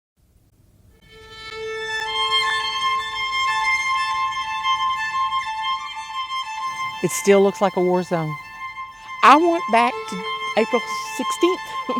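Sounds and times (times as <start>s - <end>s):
instrumental music with held notes: 1.0s - 11.9s.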